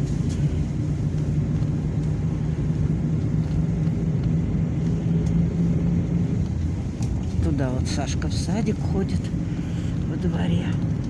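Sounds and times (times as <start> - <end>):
low hum: 0.0 - 11.0
vehicle cabin rumble: 0.0 - 11.0.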